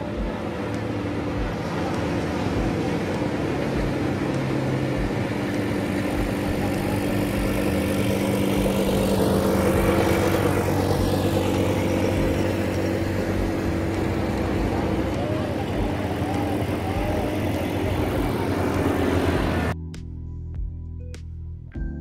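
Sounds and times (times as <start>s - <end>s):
quad bike engine running: 0.0s - 19.8s.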